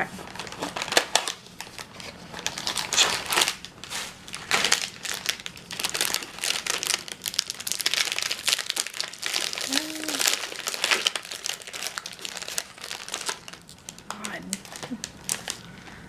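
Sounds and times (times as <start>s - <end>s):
plastic wrapper crinkling: 0.2s - 16.0s.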